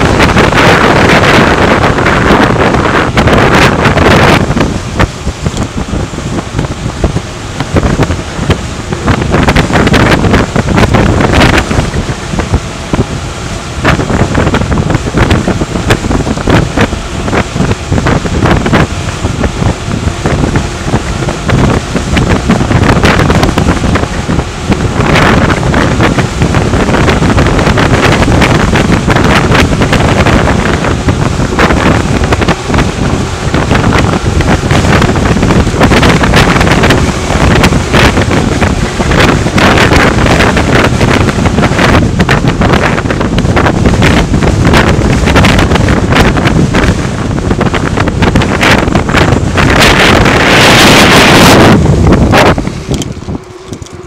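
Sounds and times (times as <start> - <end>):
gusty wind buffeting microphone: 0.0 - 54.0.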